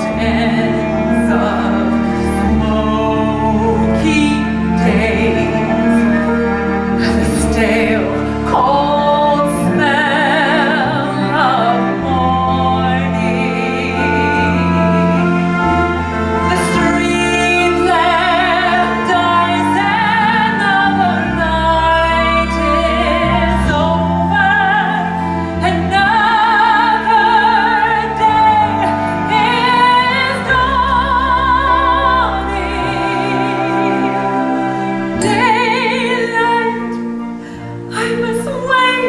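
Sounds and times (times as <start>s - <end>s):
woman singing operatic ballad: 0.0s - 39.0s.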